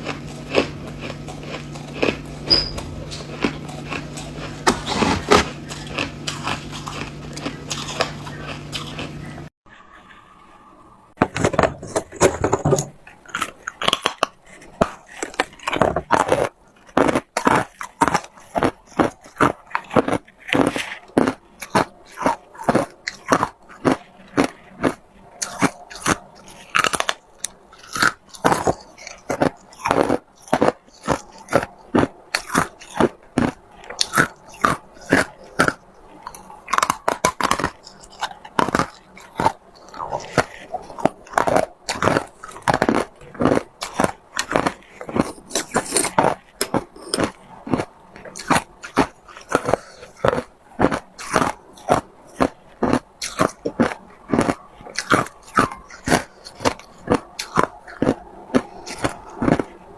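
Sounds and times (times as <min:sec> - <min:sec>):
ice being chewed: 0:00.0 - 0:09.5, 0:11.2 - 0:59.9.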